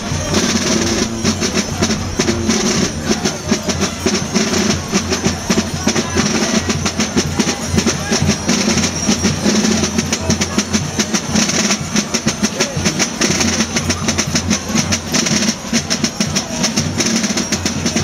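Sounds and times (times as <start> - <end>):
bells jingling: 0.0 - 18.0
drums beating fast rhythm: 0.0 - 18.0.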